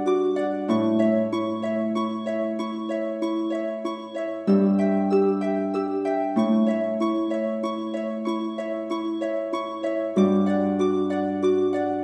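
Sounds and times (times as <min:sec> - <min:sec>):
gentle plucked melody: 0:00.0 - 0:12.0.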